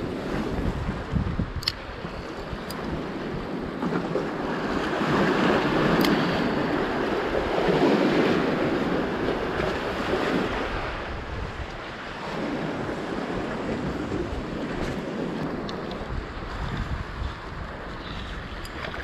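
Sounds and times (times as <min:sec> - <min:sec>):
sea waves surging among blocks: 0:00.0 - 0:19.0
wind buffeting microphone: 0:00.0 - 0:19.0.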